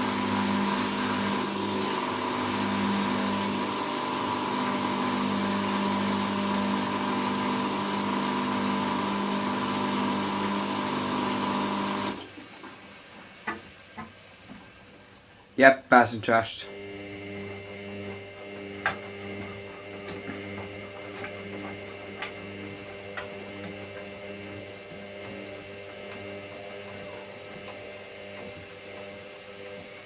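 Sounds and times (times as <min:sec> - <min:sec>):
washing machine spinning: 0:00.0 - 0:15.6, 0:16.7 - 0:30.0.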